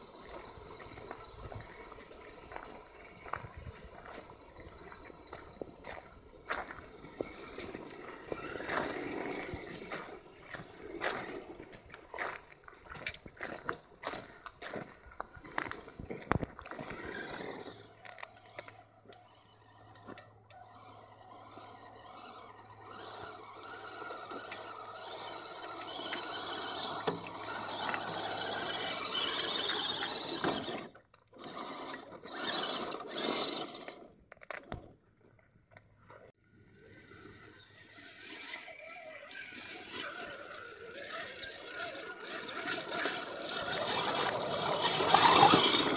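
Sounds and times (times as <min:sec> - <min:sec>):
rc truck motors whining: 0:00.0 - 0:45.9.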